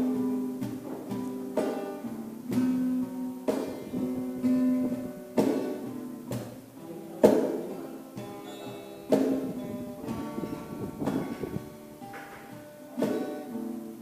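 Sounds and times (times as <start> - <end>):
acoustic guitar strummed chords: 0.0 - 14.0
guitar picked notes: 0.0 - 14.0.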